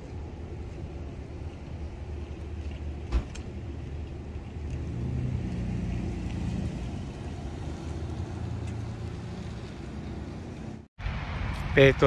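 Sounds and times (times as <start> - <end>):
car driving slowly past: 0.0 - 12.0.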